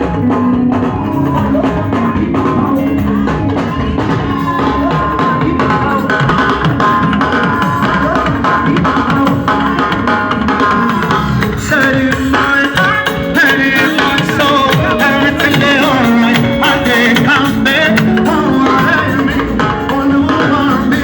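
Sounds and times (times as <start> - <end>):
live band with drums: 0.0 - 21.0
person singing: 0.0 - 21.0.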